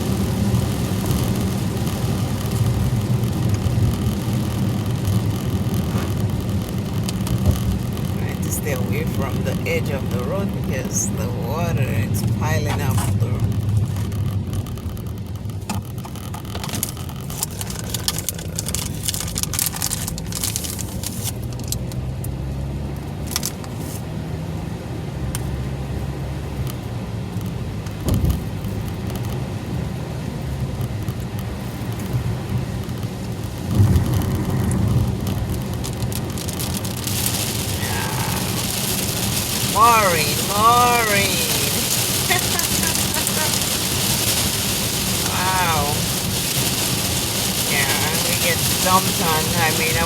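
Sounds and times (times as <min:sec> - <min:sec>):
car road and engine rumble: 0:00.0 - 0:50.0
rain ticking on car: 0:00.0 - 0:50.0.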